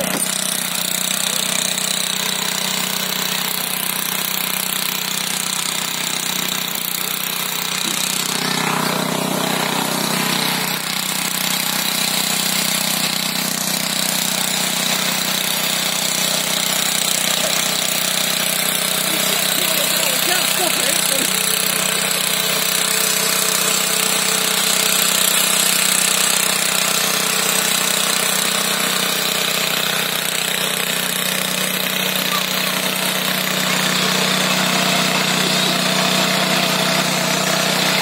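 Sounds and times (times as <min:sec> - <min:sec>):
small petrol engine running: 0:00.0 - 0:38.0.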